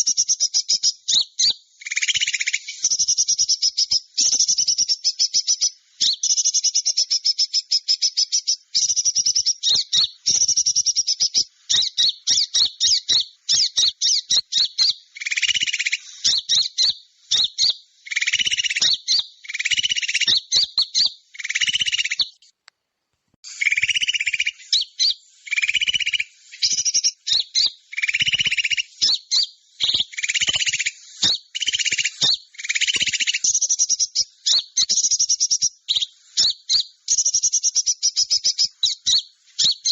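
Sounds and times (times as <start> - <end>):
songbirds chattering trills: 0.0 - 22.5, 23.4 - 39.9.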